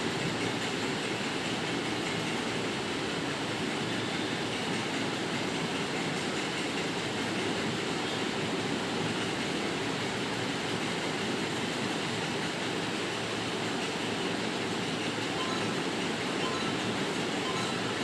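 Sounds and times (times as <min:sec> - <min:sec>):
steady rushing background noise: 0:00.0 - 0:18.0.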